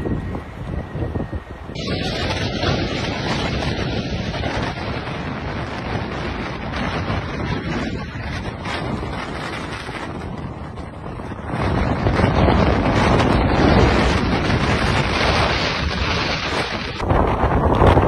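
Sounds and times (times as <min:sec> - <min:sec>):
rough surf breaking: 0:00.0 - 0:18.0
wind blasting microphone: 0:00.0 - 0:18.0.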